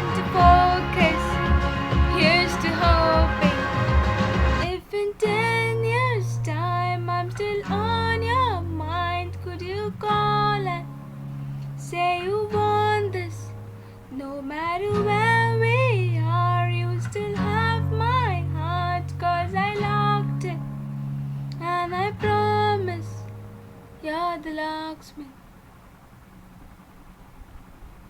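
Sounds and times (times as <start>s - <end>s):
woman singing pop ballad: 0.0s - 11.0s, 11.7s - 20.7s, 21.6s - 23.3s, 24.0s - 25.3s
strummed acoustic guitar: 0.0s - 25.0s
faint hiss: 0.0s - 28.0s.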